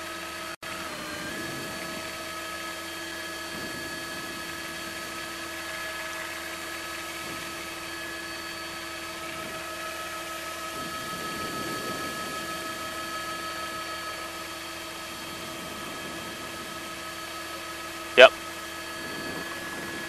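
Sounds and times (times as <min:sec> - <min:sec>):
helicopter turbine whine: 0:00.0 - 0:20.0.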